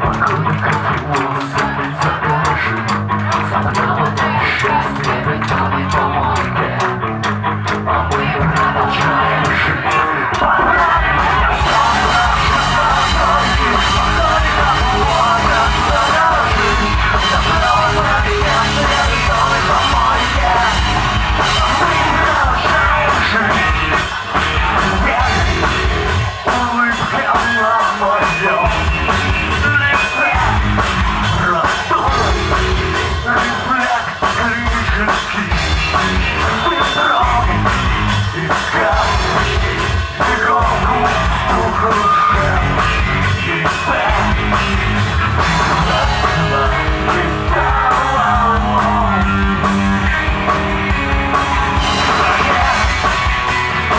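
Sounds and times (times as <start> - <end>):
drum kit beat: 0.0 - 53.9
rock band playing loud: 0.0 - 53.9.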